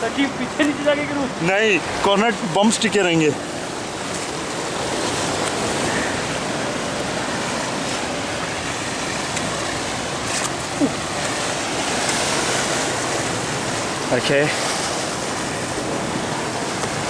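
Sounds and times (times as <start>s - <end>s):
ocean surf breaking on rocks: 0.0s - 17.0s.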